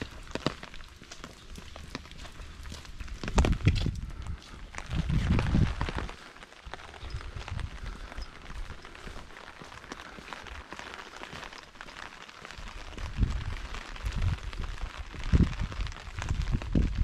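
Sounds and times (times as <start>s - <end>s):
footsteps on wet concrete: 0.0s - 17.0s
light rain pattering: 0.0s - 17.0s.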